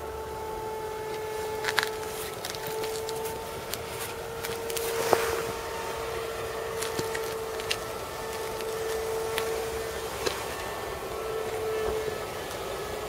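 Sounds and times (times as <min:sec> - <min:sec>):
model plane electric motor hum: 0:00.0 - 0:13.0.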